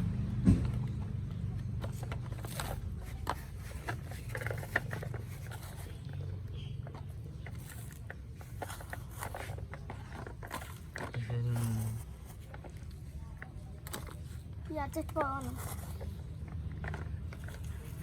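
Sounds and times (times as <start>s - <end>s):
toy trucks clicking and scraping: 0.3s - 18.0s.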